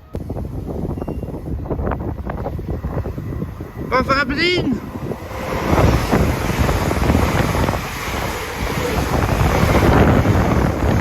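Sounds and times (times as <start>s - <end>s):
train passing at speed: 0.0s - 11.0s
wind buffeting microphone: 0.0s - 11.0s.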